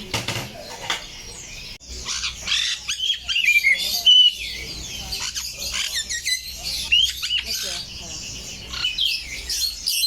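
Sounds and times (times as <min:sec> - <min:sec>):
caged birds chirping and squawking: 0:00.0 - 0:10.0.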